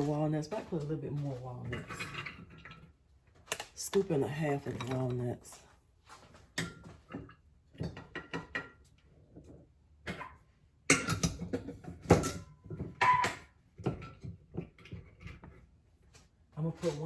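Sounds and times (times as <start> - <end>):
kitchen utensils knocking and rattling: 0.0 - 5.6, 6.6 - 15.7.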